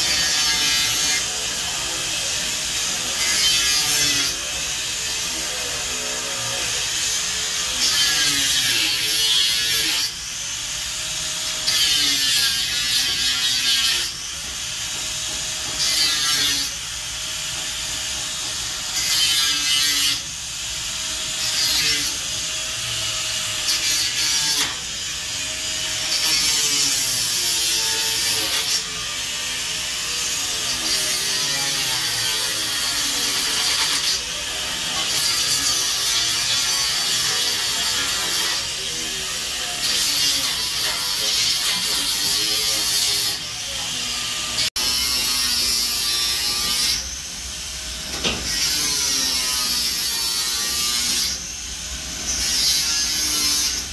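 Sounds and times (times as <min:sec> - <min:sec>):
angle grinder grinding metal: 0:00.0 - 0:53.9.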